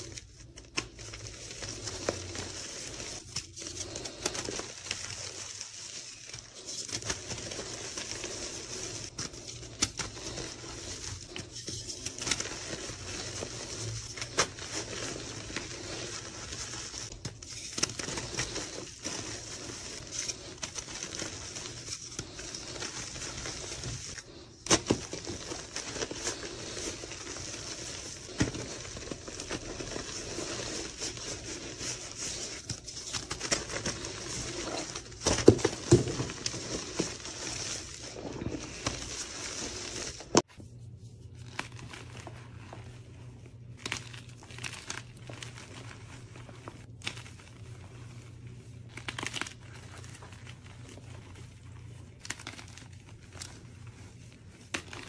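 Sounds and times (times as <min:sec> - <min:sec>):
chalk crunching and crumbling: 0:00.0 - 0:55.0.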